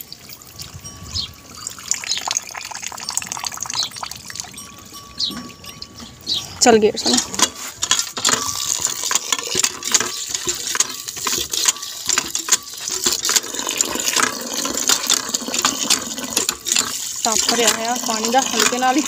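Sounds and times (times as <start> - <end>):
water pouring into metal pot: 0.0 - 6.3, 7.0 - 19.0.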